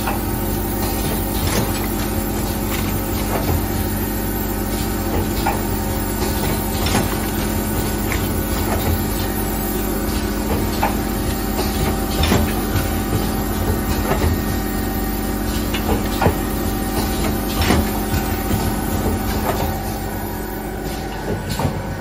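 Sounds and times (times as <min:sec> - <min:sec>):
machine clicks and clacks: 0:00.0 - 0:22.0
machine humming: 0:00.0 - 0:22.0.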